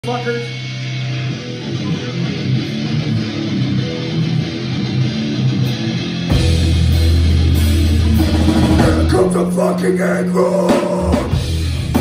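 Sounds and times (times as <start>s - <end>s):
electric guitar: 0.0s - 12.0s
heavy bass: 0.0s - 12.0s.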